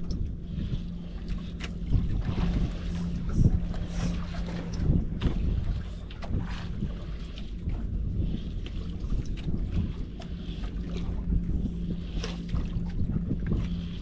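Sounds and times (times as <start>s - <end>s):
steady low hum: 0.0s - 14.0s
wind buffeting microphone: 0.0s - 14.0s.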